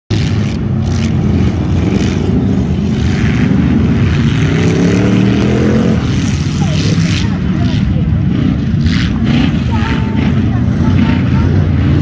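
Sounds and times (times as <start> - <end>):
engine revving with rising pitch: 0.1 - 12.0
race car engines running hard: 0.1 - 12.0.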